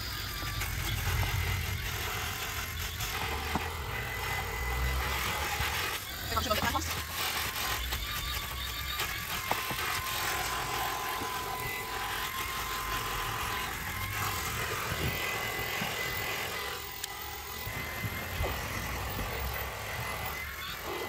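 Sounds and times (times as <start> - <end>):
stick vacuum running: 0.0 - 21.0.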